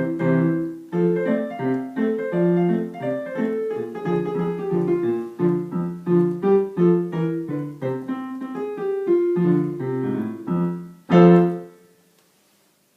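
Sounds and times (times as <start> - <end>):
jazz swing piano: 0.0 - 11.8.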